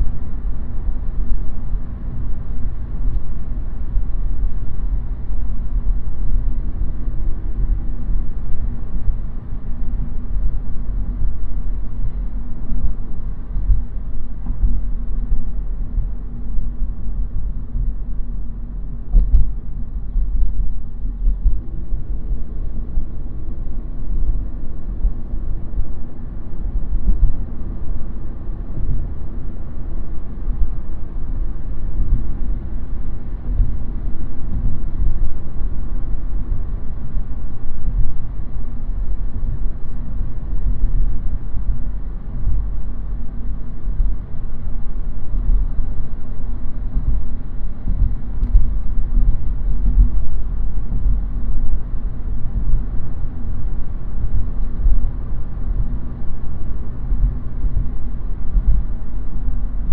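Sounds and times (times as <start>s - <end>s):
car tyres and engine rumble: 0.0s - 59.9s
faint humming tones: 0.0s - 59.9s.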